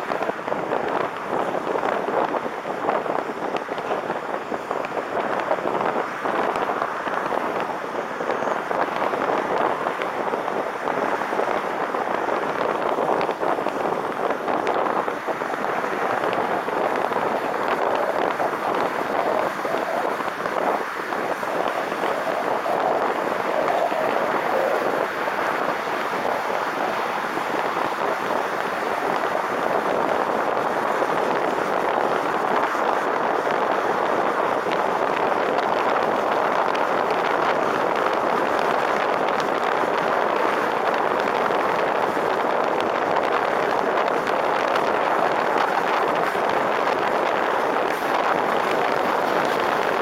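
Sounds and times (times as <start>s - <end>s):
tyre and road noise: 0.0s - 50.0s
wind rushing over microphone: 0.0s - 50.0s.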